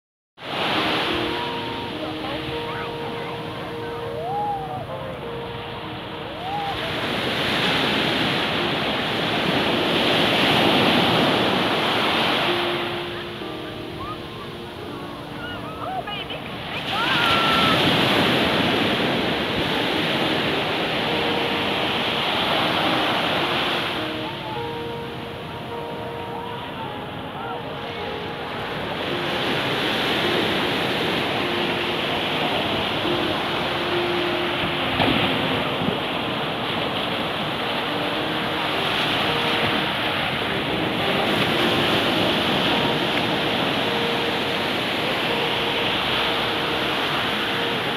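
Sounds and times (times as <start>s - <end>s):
surf washing on sand: 0.4s - 47.9s.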